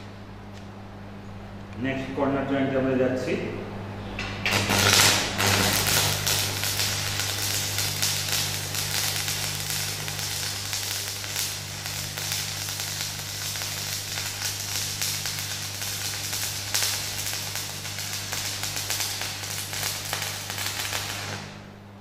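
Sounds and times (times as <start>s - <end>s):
low hum: 0.0s - 22.0s
welding arc crackling and sizzling: 4.2s - 21.8s.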